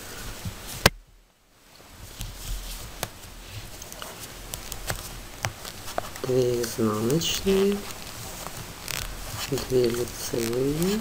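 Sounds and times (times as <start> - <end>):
yarn rustling: 1.6 - 11.0.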